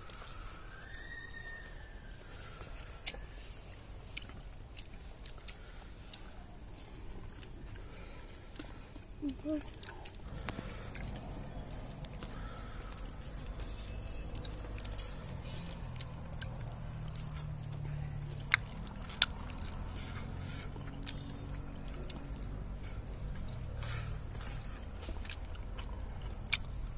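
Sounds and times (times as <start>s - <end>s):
person chewing: 0.0s - 0.9s, 2.1s - 26.9s
low steady rumble: 1.8s - 26.9s.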